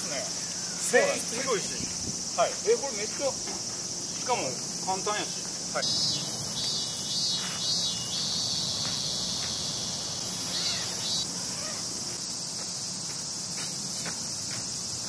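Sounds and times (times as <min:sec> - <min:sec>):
high-pitched insect chorus: 0:00.0 - 0:15.0
pulsed insect call: 0:00.0 - 0:15.0.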